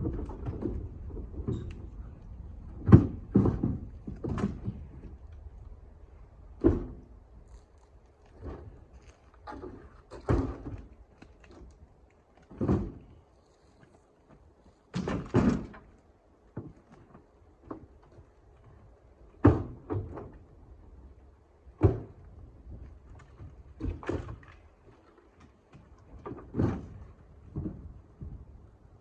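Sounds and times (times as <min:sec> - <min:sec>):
firewood thunking and knocking: 0:00.0 - 0:05.5, 0:06.5 - 0:07.2, 0:08.2 - 0:13.2, 0:13.8 - 0:20.5, 0:21.8 - 0:28.6.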